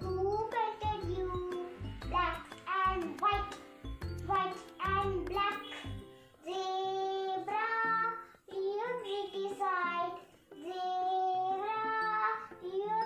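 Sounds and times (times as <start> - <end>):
girl singing: 0.0 - 3.6, 4.2 - 13.0.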